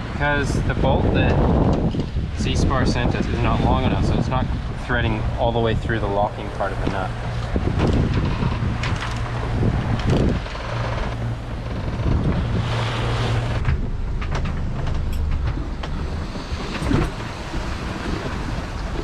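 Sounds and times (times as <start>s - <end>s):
water rushing along boat hull: 0.0s - 19.0s
wind buffeting microphone: 0.0s - 19.0s.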